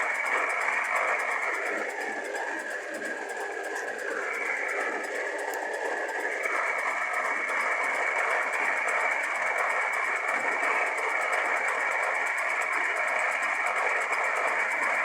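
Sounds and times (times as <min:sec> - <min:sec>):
constant high whine: 0:00.0 - 0:15.0.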